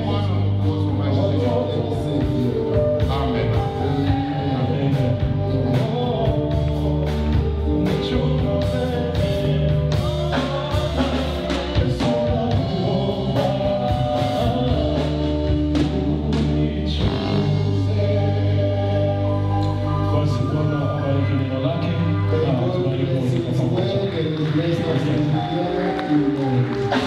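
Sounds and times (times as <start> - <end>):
church band music: 0.0 - 27.0
person singing: 0.0 - 27.0.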